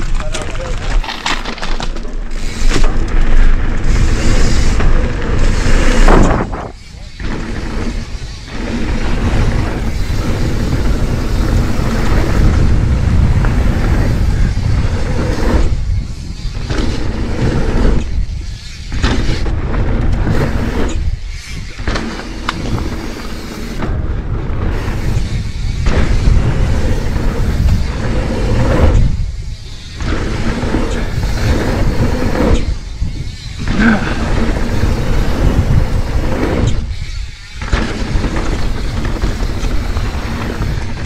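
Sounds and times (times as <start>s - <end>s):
bike tyres rumbling on dirt: 0.0s - 41.0s
wind on microphone: 2.4s - 41.0s.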